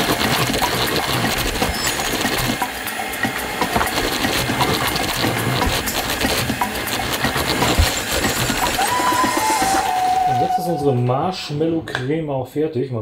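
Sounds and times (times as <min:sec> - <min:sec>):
electric hand mixer running: 0:00.0 - 0:10.8.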